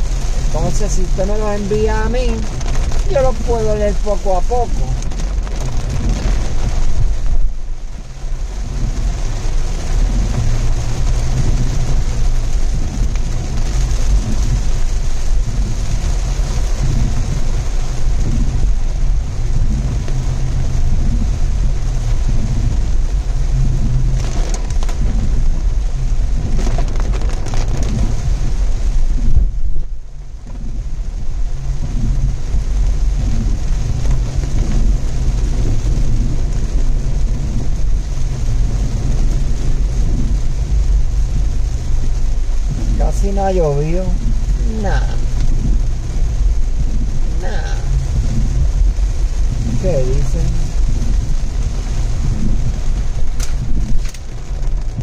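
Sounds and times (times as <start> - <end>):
rain noise: 0.0 - 55.0
road noise: 0.0 - 55.0
wind noise: 0.0 - 55.0.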